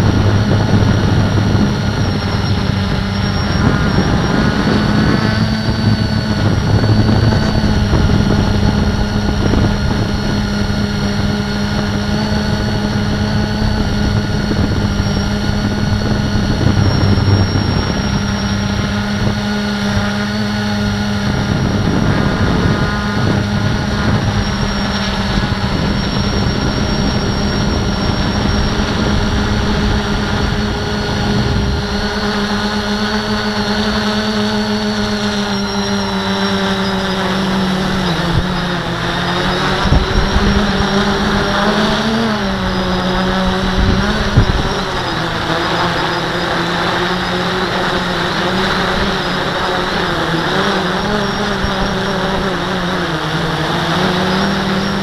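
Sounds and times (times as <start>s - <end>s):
drone propellers whining: 0.0s - 55.0s
wind buffeting microphone: 0.0s - 55.0s.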